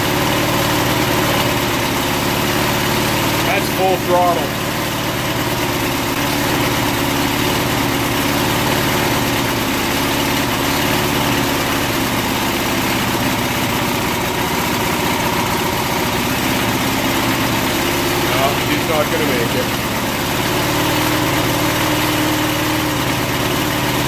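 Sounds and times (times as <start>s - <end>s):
lawn mower engine running: 0.0s - 24.0s.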